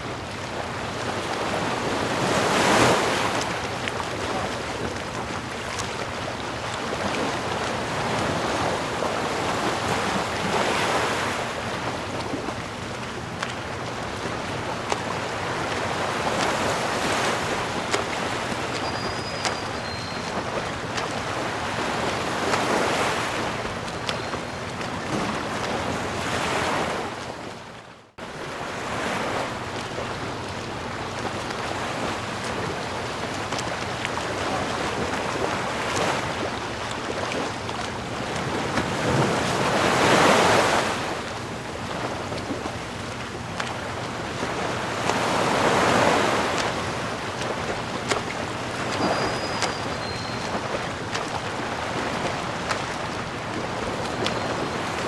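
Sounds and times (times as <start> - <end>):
ocean waves washing in: 0.0 - 55.0.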